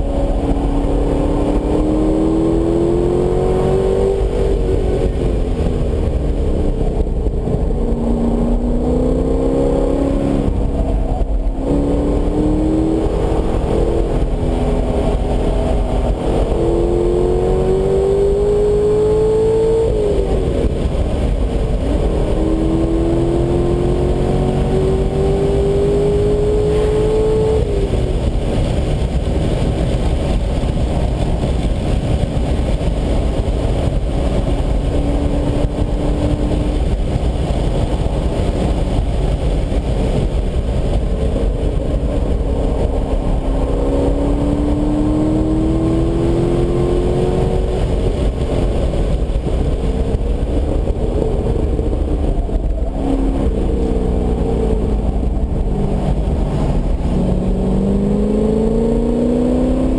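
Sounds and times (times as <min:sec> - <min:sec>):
car engine at full throttle: 0:00.0 - 0:59.9
road and wind noise: 0:00.0 - 0:59.9.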